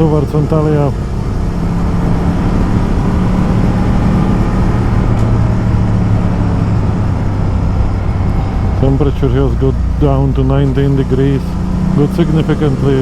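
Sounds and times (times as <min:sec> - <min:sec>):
low wind rumble: 0:00.0 - 0:13.0
motorcycle engine drone: 0:00.0 - 0:13.0.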